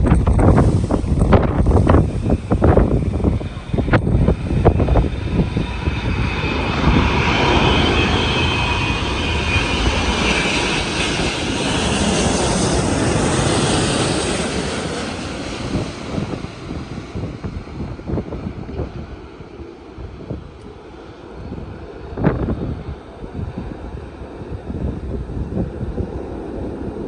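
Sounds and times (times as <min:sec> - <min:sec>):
jet airliner passing overhead: 0:00.0 - 0:27.0
wind buffeting microphone: 0:00.0 - 0:27.0.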